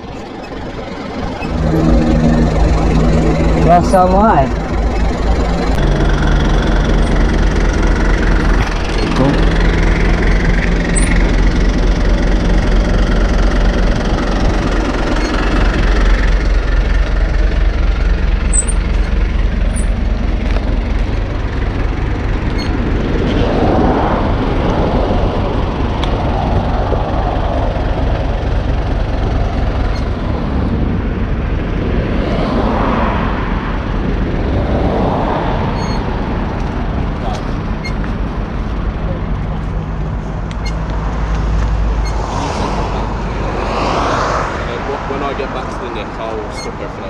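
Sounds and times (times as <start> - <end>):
vehicle engine idling: 0.0 - 43.6, 44.6 - 47.0
road traffic passing: 0.0 - 47.0.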